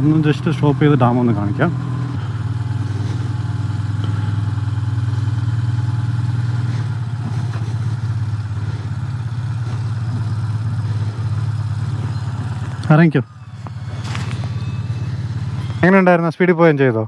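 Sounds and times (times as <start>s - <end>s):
motorcycle engine running: 0.0s - 16.5s.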